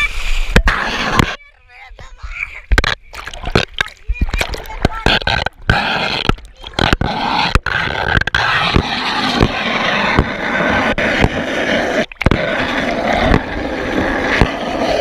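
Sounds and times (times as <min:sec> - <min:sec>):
camera thumping on water slide: 0:00.0 - 0:15.0
water rushing and splashing: 0:00.0 - 0:15.0.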